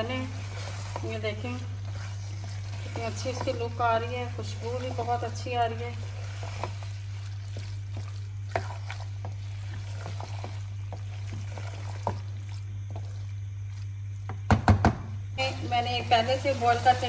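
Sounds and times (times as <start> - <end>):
spatula stirring thick curry: 0.0 - 14.3, 15.4 - 17.0
steady low hum: 0.0 - 17.0.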